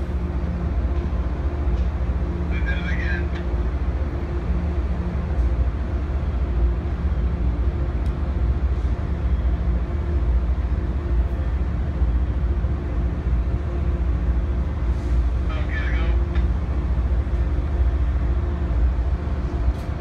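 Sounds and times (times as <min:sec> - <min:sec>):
diesel locomotive engines running: 0:00.0 - 0:20.0.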